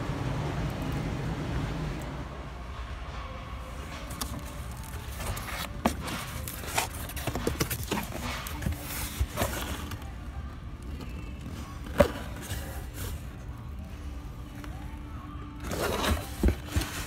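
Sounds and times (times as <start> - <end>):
low store hum: 0.0 - 17.0.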